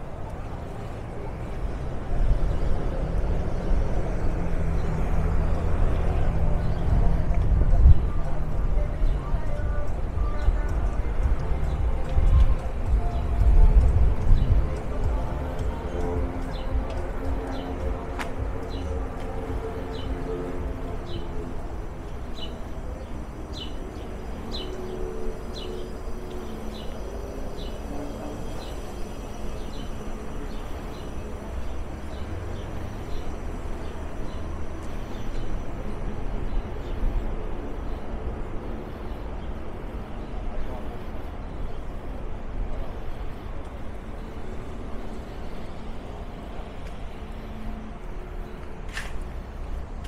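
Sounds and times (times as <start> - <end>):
city traffic rumble: 0.0 - 50.0.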